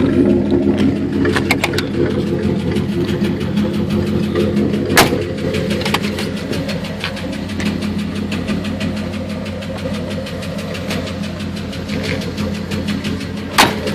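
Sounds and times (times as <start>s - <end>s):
car engine idling with ticking: 0.0s - 13.9s.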